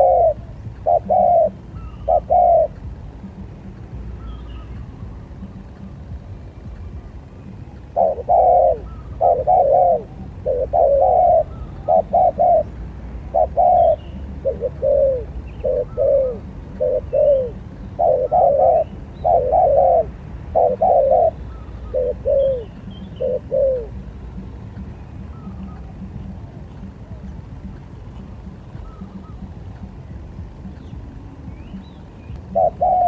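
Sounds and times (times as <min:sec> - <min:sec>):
dove cooing: 0:00.0 - 0:06.0, 0:07.7 - 0:24.6, 0:25.2 - 0:30.8, 0:31.6 - 0:33.0.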